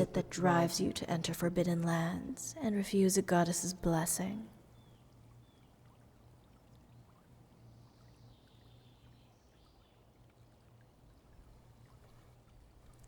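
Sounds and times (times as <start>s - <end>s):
faint running water: 0.0s - 13.0s
low steady hum: 0.0s - 13.0s.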